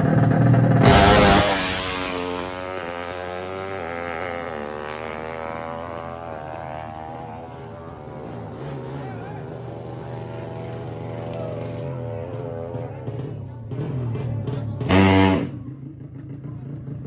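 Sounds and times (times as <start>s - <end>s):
motorcycle engine at full throttle: 0.0s - 17.0s.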